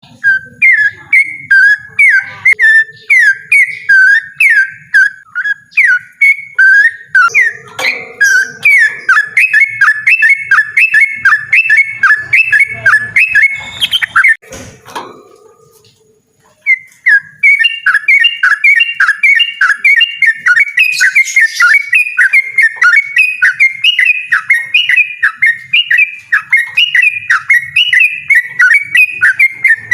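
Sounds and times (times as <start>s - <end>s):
bulbul singing whistled notes: 0.0s - 14.4s, 16.6s - 29.9s.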